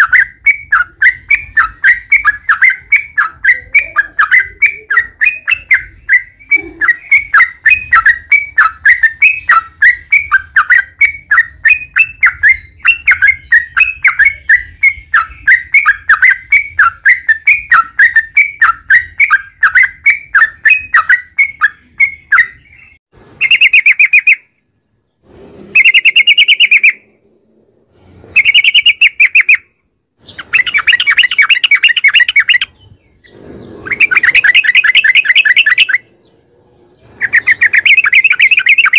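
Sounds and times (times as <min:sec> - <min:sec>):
bird chattering trills: 0:00.0 - 0:24.4, 0:25.8 - 0:27.2, 0:28.3 - 0:38.9
bird singing repeated notes: 0:00.0 - 0:38.9.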